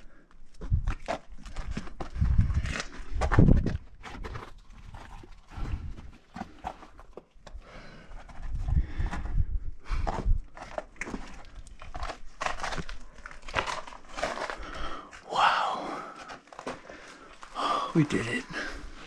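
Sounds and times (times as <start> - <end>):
rustling and handling noise: 0.0 - 15.3, 16.0 - 19.0
scrapes and crunches on rock: 0.0 - 15.3, 16.1 - 19.0.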